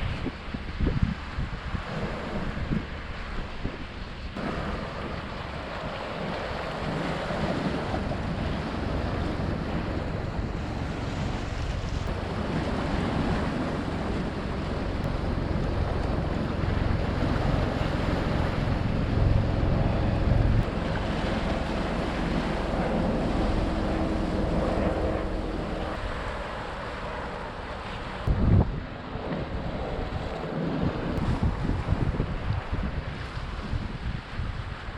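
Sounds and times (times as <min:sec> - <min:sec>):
steady rushing wash: 0:00.0 - 0:34.9
wind buffeting microphone: 0:00.0 - 0:34.9.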